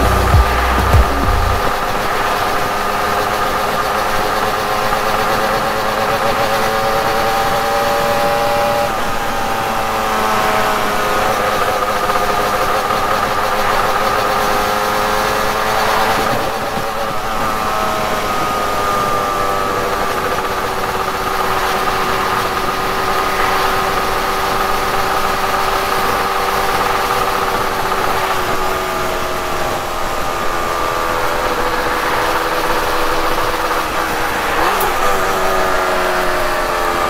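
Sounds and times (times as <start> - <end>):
motorcycle engine cruising: 0.0 - 37.0
wind and road noise: 0.0 - 37.0.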